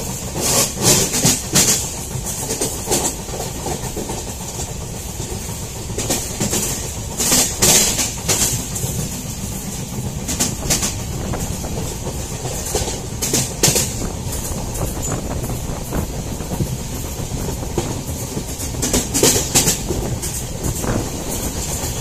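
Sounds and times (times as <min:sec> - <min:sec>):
train rumble: 0:00.0 - 0:22.0
wheels clacking over rail joints: 0:00.0 - 0:22.0.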